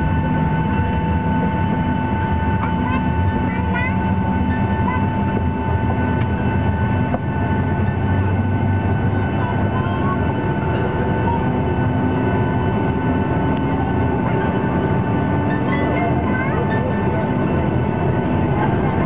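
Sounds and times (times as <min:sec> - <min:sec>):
jet engines whining at taxi power: 0:00.0 - 0:19.0.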